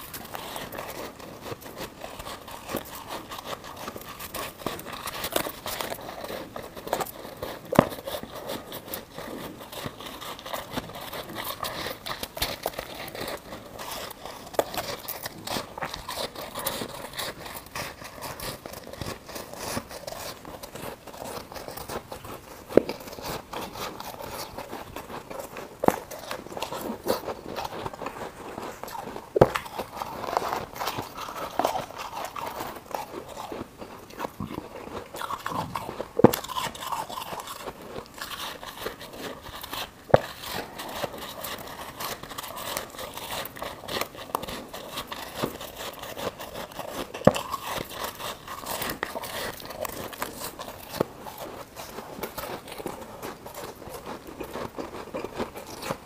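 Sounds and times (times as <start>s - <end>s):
ice being chewed crunching: 0.0s - 56.0s.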